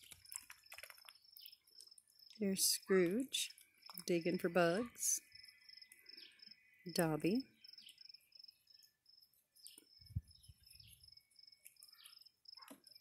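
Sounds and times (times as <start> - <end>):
crickets chirping: 0.2 - 13.0.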